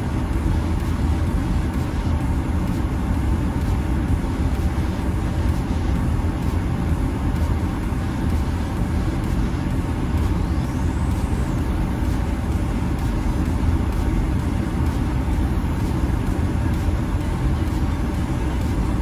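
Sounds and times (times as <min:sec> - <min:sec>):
car engine drone: 0:00.0 - 0:19.0.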